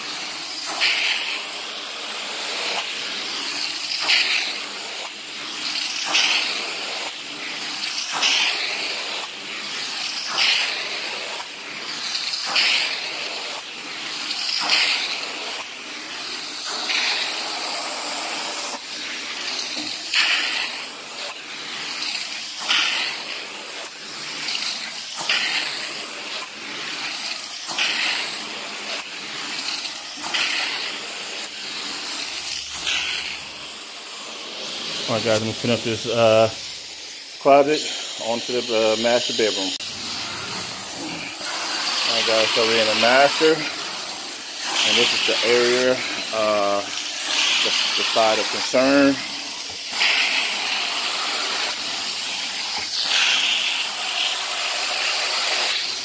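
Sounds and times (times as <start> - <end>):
carpet extraction wand hissing: 0.0 - 56.0.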